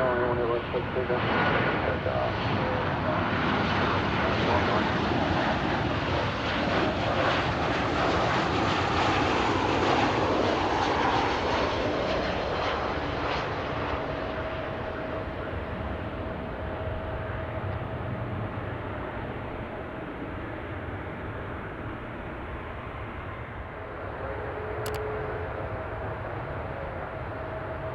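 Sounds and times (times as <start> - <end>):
passing plane engine: 0.0 - 27.9.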